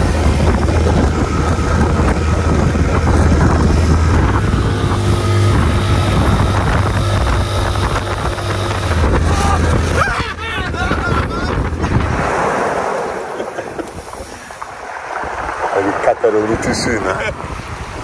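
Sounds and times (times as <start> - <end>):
outboard motor running: 0.0 - 14.6
water rushing past hull: 0.0 - 18.0
wind buffeting microphone: 0.0 - 18.0.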